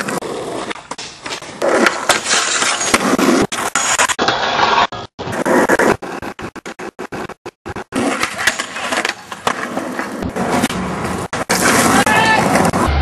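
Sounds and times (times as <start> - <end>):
skateboard grinding metal rail: 0.0 - 5.9, 8.0 - 13.0
skateboard wheels rolling on asphalt: 0.0 - 13.0.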